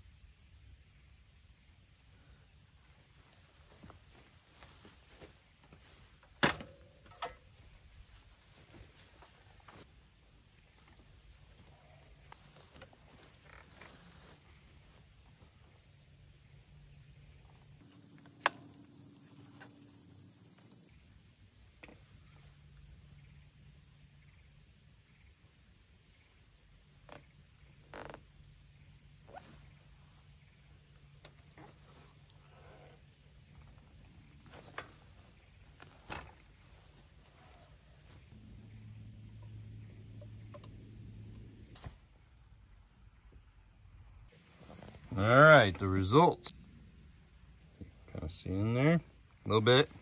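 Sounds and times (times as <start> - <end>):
crickets chirping: 0.0 - 50.0.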